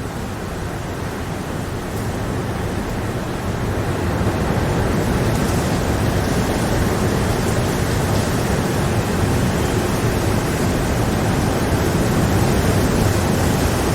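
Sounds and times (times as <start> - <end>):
steady rain: 0.0 - 13.9.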